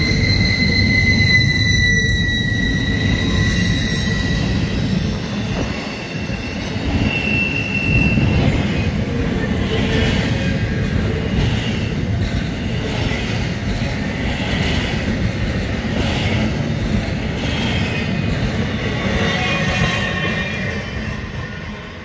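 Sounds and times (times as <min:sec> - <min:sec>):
train cars rumbling: 0:00.0 - 0:22.0
wheels ringing on rails: 0:00.0 - 0:22.0.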